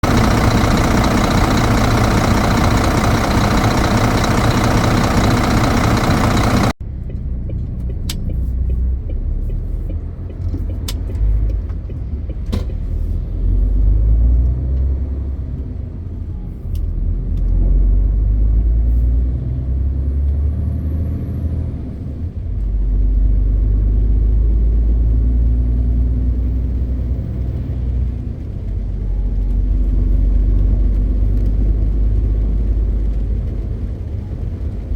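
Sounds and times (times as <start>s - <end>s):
diesel truck engine rumbling: 0.0s - 34.9s.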